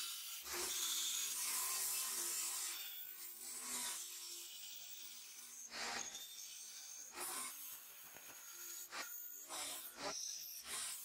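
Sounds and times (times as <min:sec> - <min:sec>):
hand file rasping on brass: 0:00.0 - 0:11.0.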